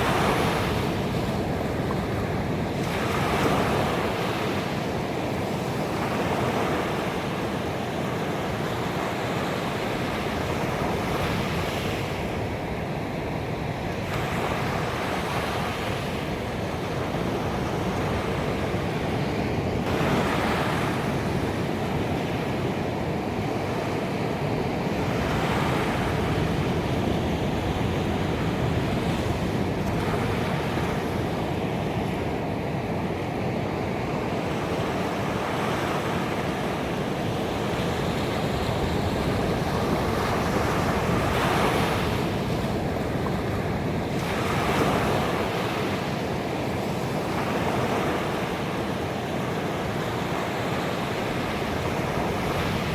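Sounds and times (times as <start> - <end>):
ocean waves breaking: 0.0 - 52.9.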